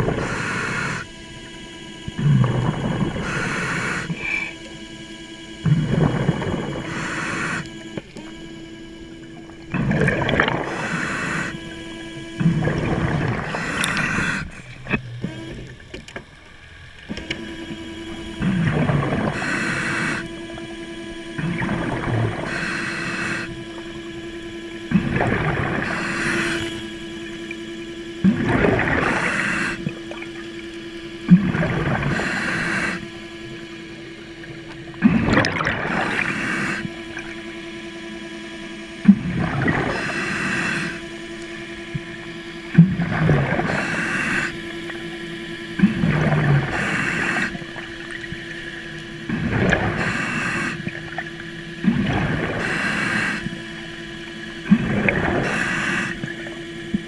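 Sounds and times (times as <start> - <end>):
diver breathing through regulator: 0.0 - 8.6, 9.8 - 15.5, 18.4 - 20.6, 21.4 - 24.0, 24.9 - 30.2, 31.3 - 37.1, 39.1 - 41.3, 43.2 - 57.0
steady hum: 0.0 - 57.0.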